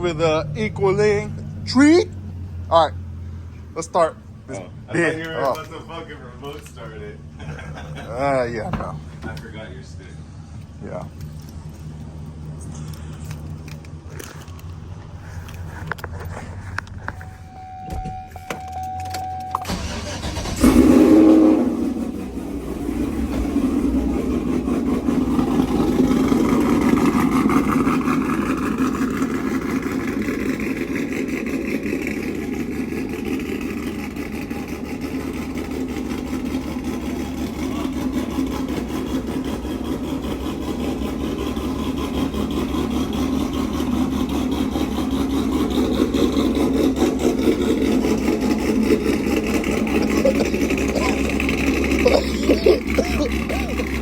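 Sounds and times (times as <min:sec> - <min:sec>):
pickup engine starting and idling: 0:00.0 - 0:54.0.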